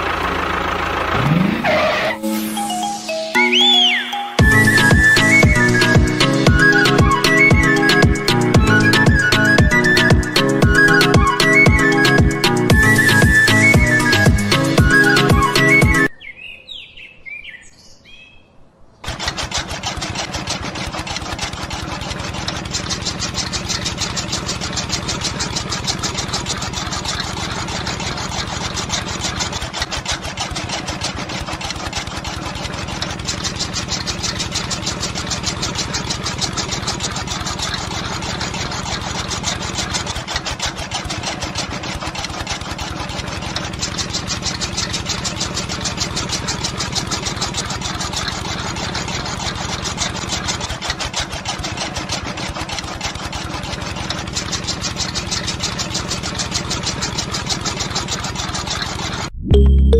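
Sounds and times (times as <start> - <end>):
small tractor engine running: 0.0 - 16.1, 19.0 - 59.9.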